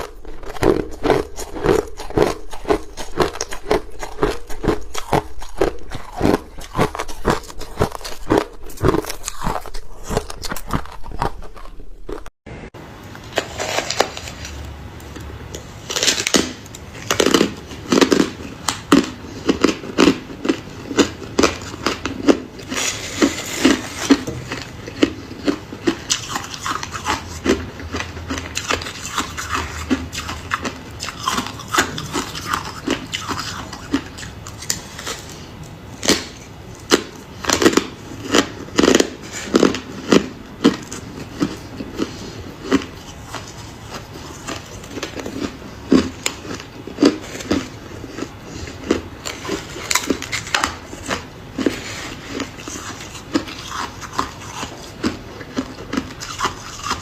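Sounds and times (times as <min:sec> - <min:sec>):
ice being chewed: 0:00.0 - 0:12.3, 0:13.4 - 0:57.0.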